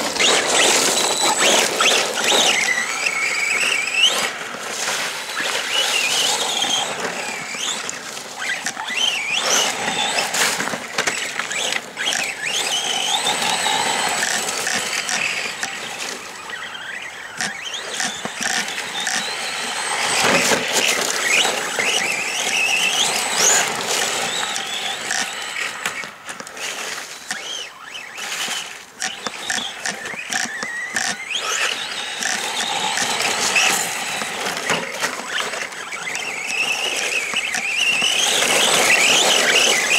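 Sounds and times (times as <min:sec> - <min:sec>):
electric motor whining: 0:00.0 - 0:39.9
toy truck clicks and knocks: 0:00.0 - 0:39.9.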